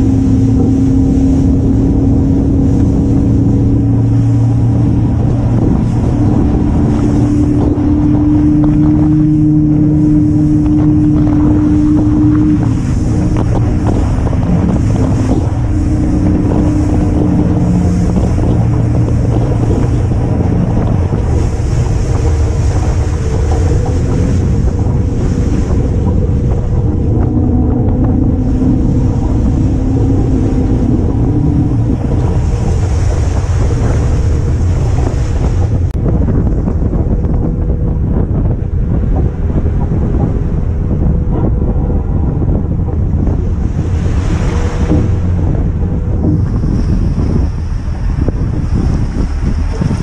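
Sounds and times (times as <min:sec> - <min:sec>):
boat engine running: 0:00.0 - 0:50.0
water rushing along hull: 0:00.0 - 0:50.0
wind on microphone: 0:00.0 - 0:50.0.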